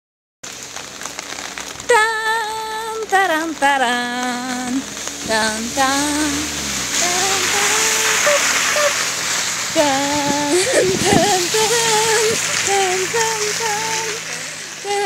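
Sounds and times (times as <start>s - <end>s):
rain on pavement: 0.4s - 15.0s.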